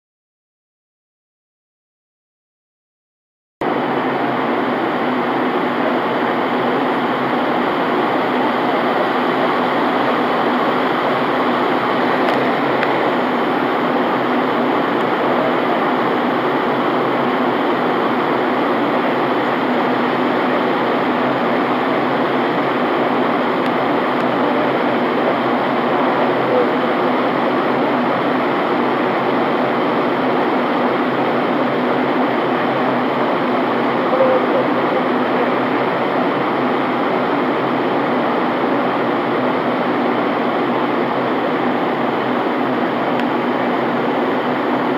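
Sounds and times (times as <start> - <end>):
airliner cabin noise: 3.6 - 44.9.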